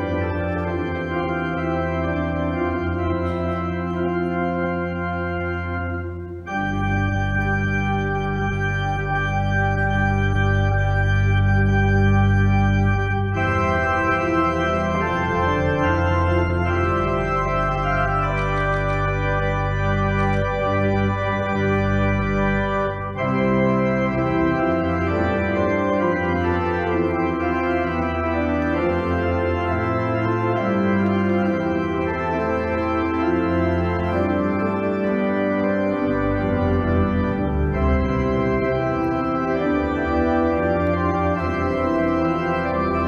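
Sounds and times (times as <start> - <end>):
organ playing slow chords: 0.0 - 43.0.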